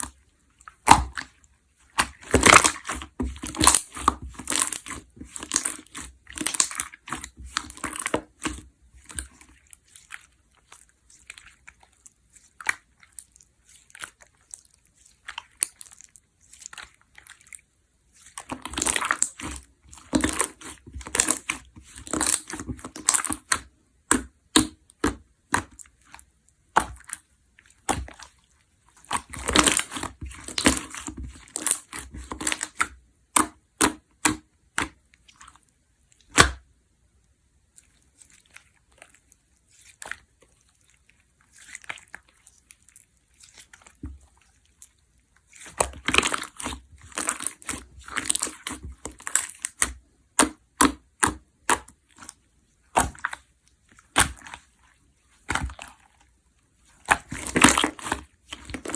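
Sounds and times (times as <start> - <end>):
slime crackling and popping: 0.7 - 1.3, 1.9 - 35.1, 38.1 - 56.2, 56.8 - 58.9.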